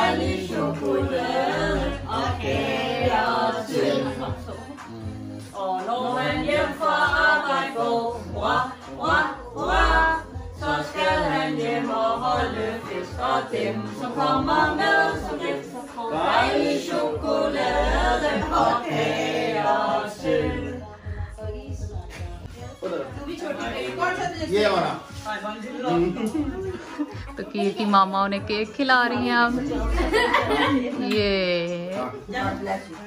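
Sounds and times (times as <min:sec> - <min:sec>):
group singing a birthday song: 0:00.0 - 0:33.0.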